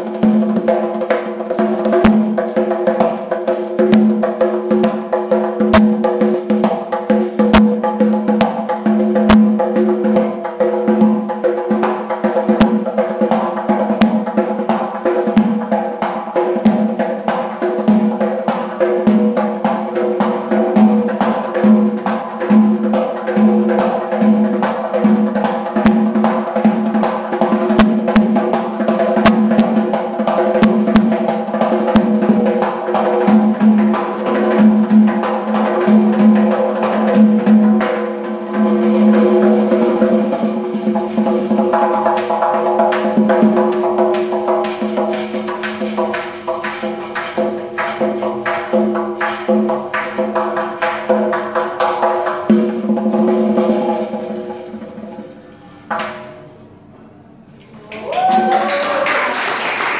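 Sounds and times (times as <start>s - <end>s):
frame drum playing: 0.0s - 56.4s.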